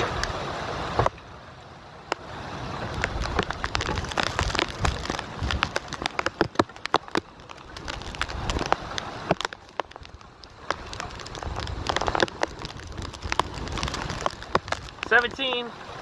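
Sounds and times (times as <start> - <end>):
heavy rain falling: 0.0 - 16.0
wind rumbling on microphone: 2.1 - 16.0.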